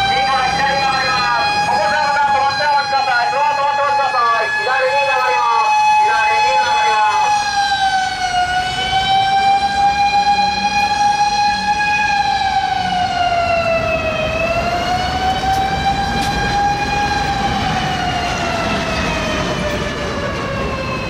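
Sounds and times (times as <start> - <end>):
city traffic rumble: 0.0 - 21.0
fire truck siren wailing: 0.0 - 21.0.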